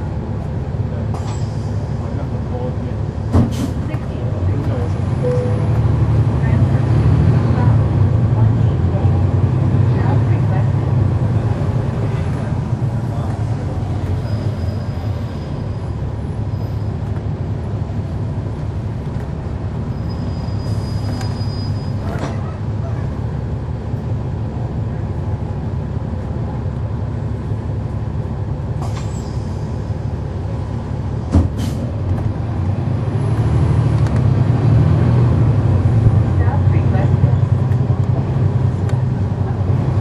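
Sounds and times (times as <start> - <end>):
bus diesel engine drone: 0.0 - 40.0.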